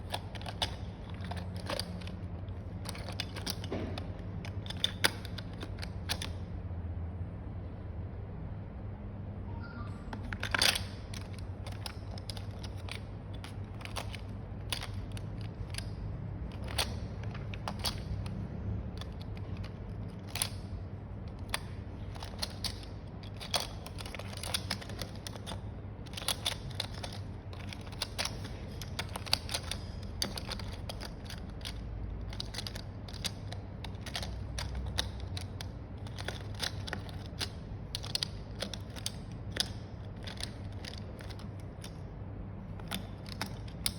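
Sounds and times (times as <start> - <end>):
packaging clicks and rustles: 0.0 - 6.4, 10.2 - 43.9
steady low hum: 0.0 - 43.9.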